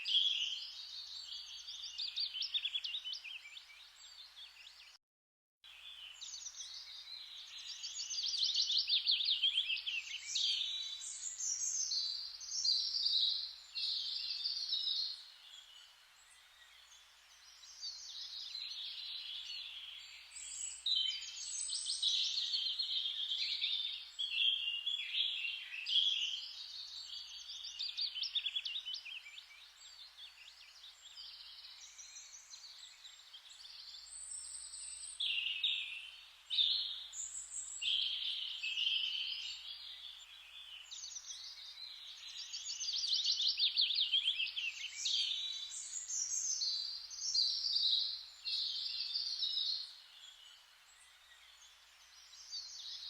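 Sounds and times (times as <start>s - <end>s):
songbirds chirping and trilling: 0.0s - 5.0s, 5.6s - 53.0s
soft steady hiss: 5.7s - 53.0s.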